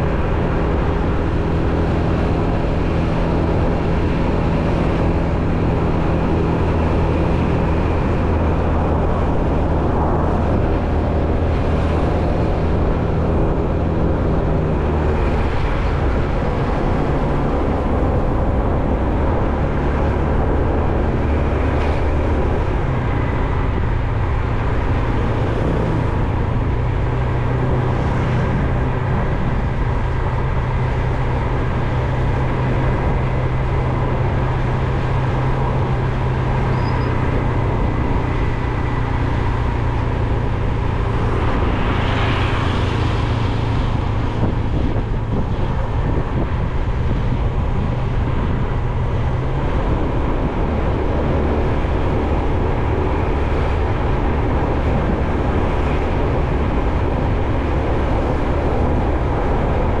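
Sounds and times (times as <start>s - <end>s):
road vehicle running noise: 0.0s - 60.0s.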